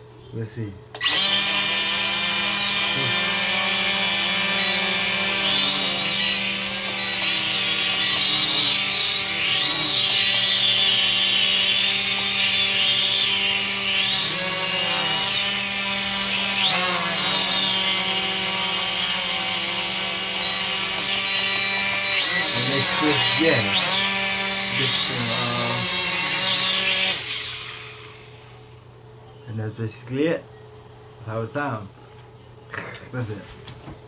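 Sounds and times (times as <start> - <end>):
drone motors whining: 1.0 - 28.6.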